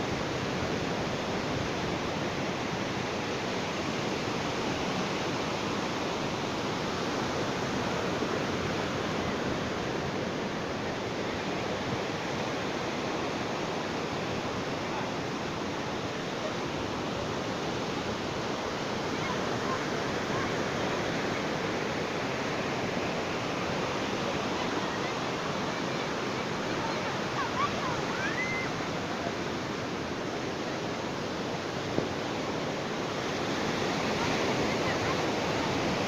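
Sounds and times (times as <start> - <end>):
ocean surf washing on beach: 0.0 - 36.0.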